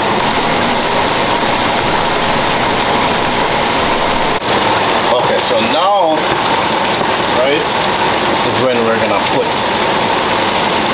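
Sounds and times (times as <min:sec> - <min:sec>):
sauce bubbling in a frying pan: 0:00.0 - 0:10.9.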